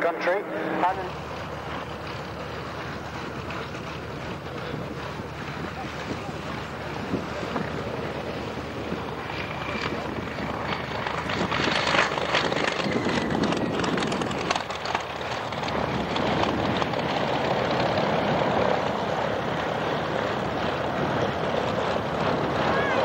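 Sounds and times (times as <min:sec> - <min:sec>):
propeller aircraft engine running: 0:00.0 - 0:23.0.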